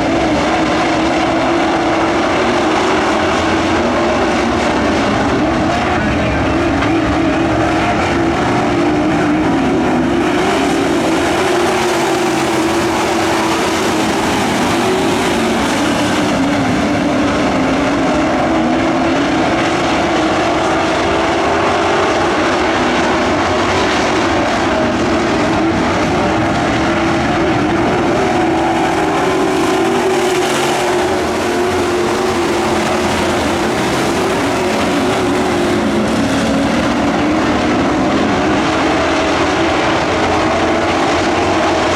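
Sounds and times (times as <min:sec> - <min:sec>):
racing truck engines: 0:00.0 - 0:41.9.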